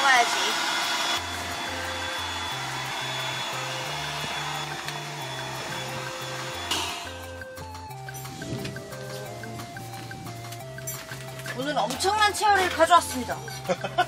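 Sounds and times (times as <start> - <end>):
electric air pump whirring: 0.0 - 14.0
background music with bass: 1.2 - 14.0.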